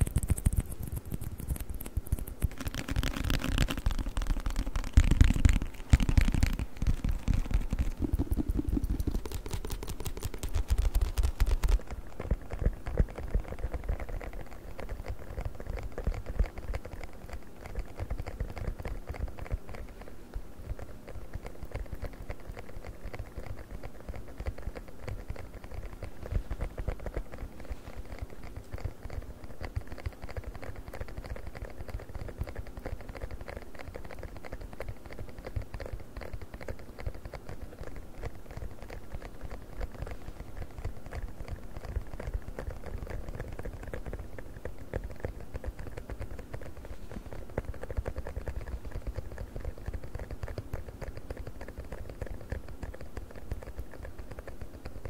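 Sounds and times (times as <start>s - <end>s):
fingers tapping silicone funnel: 0.0s - 55.0s.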